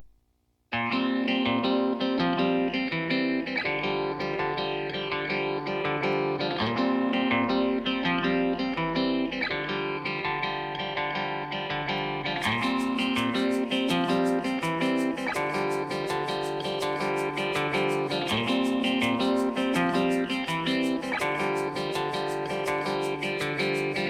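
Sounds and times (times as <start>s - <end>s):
plucked guitar music: 0.7s - 24.0s.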